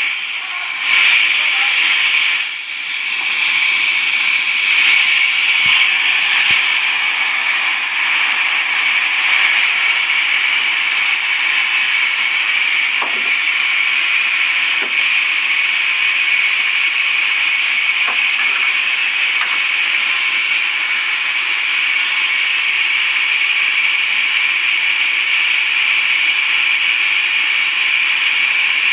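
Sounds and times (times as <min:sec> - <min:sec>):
saw cutting through timber: 0:00.0 - 0:28.9.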